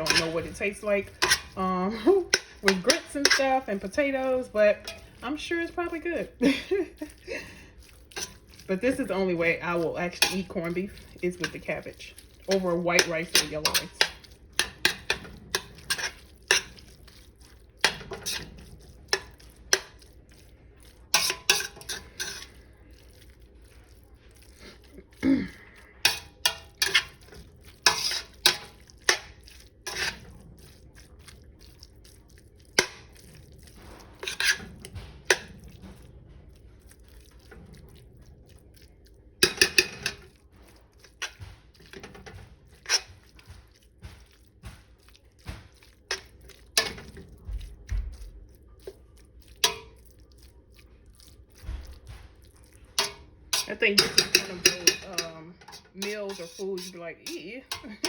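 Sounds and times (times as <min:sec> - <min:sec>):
utensil clinking and scraping a pot: 0:00.0 - 0:58.0.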